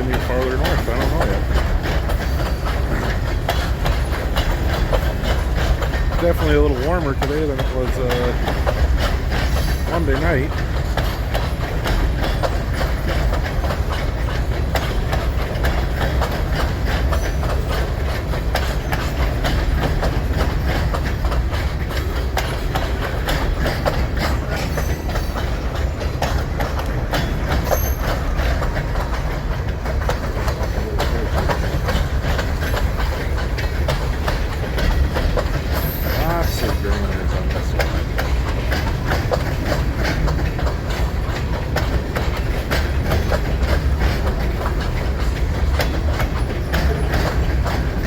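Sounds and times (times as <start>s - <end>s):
freight train rumbling past: 0.0s - 48.0s
wheel clicks over rail joints: 0.0s - 48.0s.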